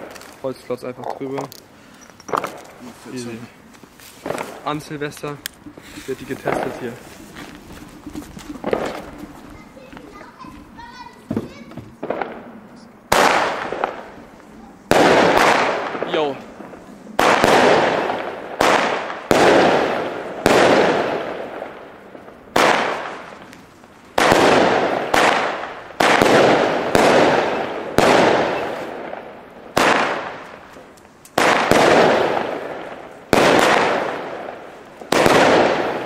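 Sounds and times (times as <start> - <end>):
firework bangs with hiss: 2.3 - 36.0.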